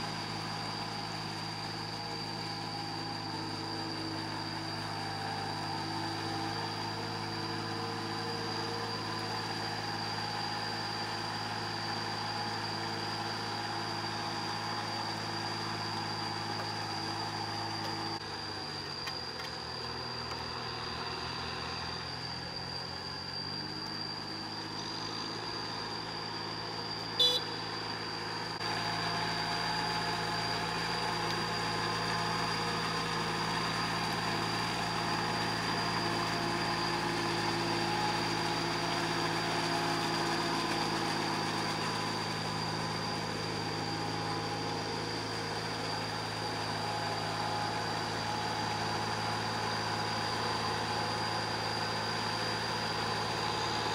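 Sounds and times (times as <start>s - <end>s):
tractor engine running: 0.0s - 23.5s, 25.5s - 53.9s
steady high whine: 0.0s - 53.9s.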